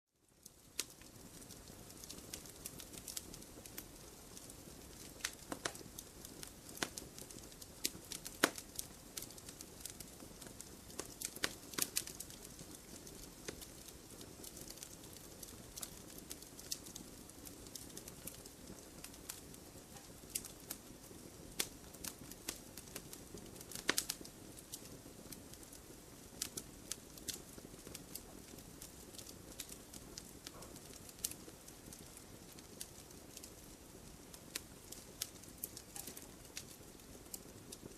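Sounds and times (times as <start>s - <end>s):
soft steady hiss: 0.1s - 37.9s
campfire crackling: 0.2s - 37.9s.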